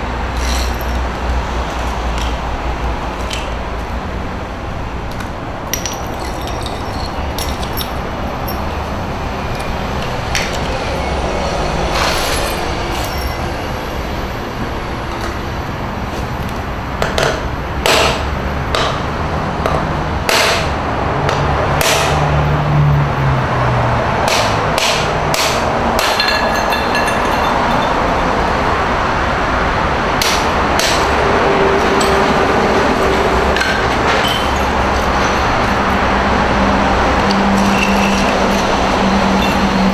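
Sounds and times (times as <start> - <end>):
steady background noise: 0.0 - 39.9.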